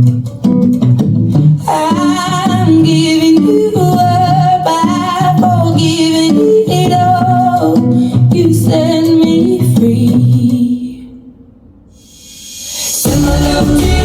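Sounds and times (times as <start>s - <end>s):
guitar and bass: 0.0s - 10.7s, 13.0s - 14.0s
pop song with singer: 1.6s - 11.2s, 12.0s - 14.0s.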